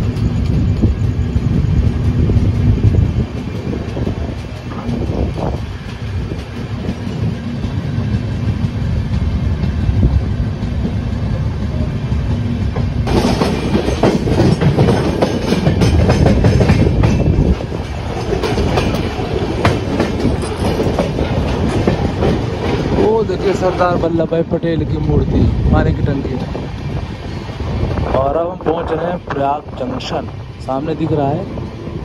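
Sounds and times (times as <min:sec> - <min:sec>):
rail clicks: 0:00.0 - 0:32.0
train wheels rumbling on rails: 0:00.0 - 0:32.0.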